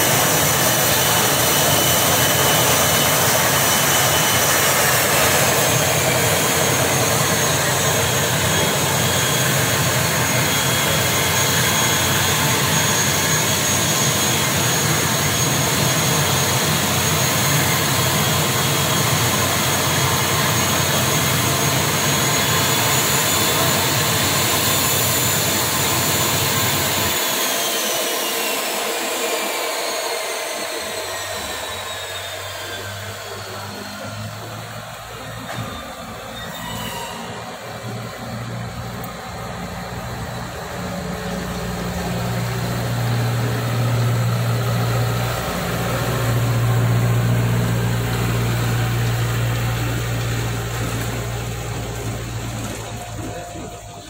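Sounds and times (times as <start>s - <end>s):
turboprop engine whine and rumble: 0.0s - 54.0s.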